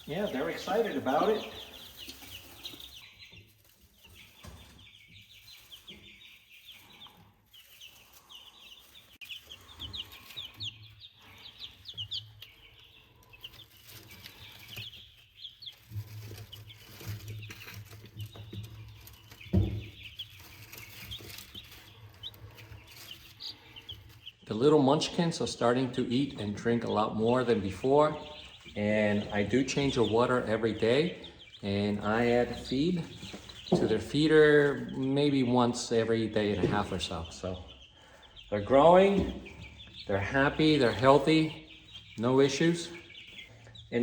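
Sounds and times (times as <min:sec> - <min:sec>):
baby chicks peeping: 0:00.0 - 0:44.0.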